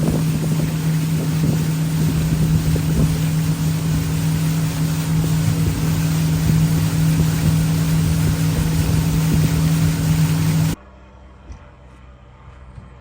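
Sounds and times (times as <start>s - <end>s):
wind rumbling on microphone: 0.0s - 10.8s
motorboat engine humming: 0.0s - 13.0s.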